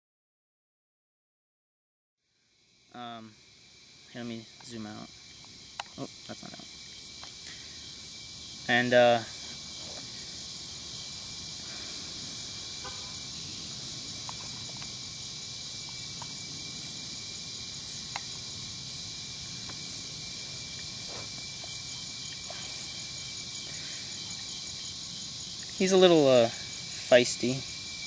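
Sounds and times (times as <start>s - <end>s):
insect chorus hiss: 2.2s - 28.0s.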